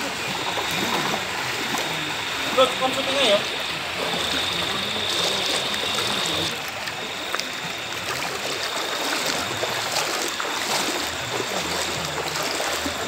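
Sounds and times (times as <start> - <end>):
floodwater sloshing and rushing: 0.0 - 13.0
small water splashes: 0.0 - 13.0.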